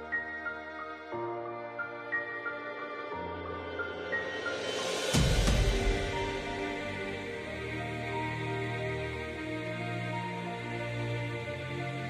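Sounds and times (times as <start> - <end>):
slow instrumental background music: 0.0 - 12.0.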